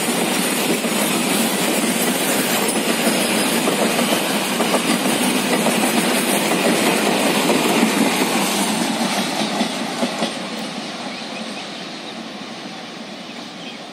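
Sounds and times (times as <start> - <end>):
train wheels clacking on rails: 0.0 - 13.9.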